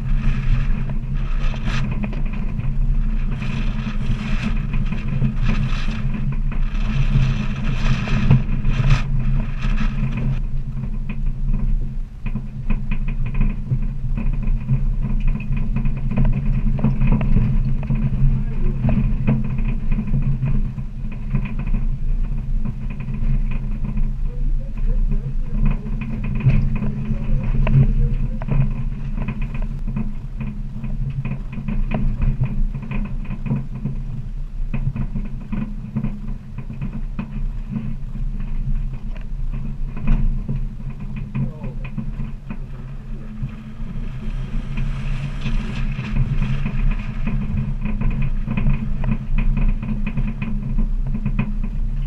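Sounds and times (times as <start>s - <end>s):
knocks and rattles on rocky track: 0.0s - 52.0s
vehicle engine running at low speed: 0.0s - 52.0s.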